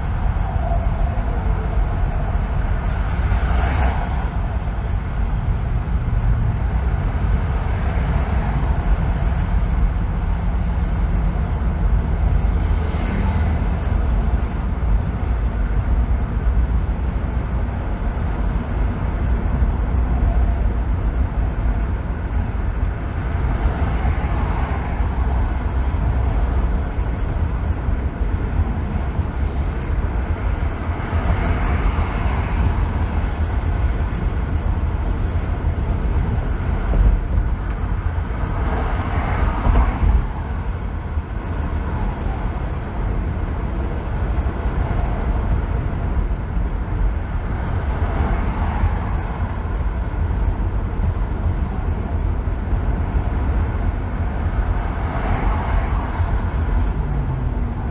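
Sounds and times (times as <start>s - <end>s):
road rumble: 0.0s - 57.9s
tyre and wind noise: 0.0s - 57.9s.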